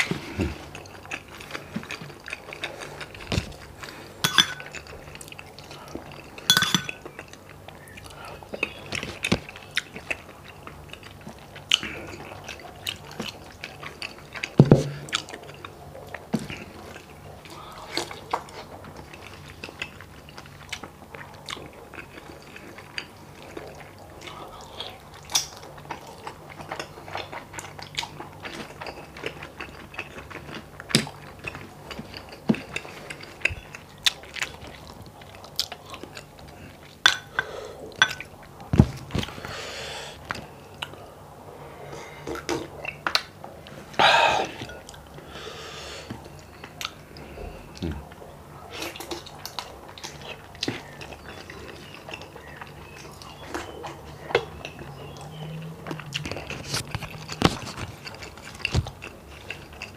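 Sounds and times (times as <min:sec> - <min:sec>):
wet chewing and mouth smacks: 0:00.7 - 0:37.1, 0:46.1 - 0:59.9.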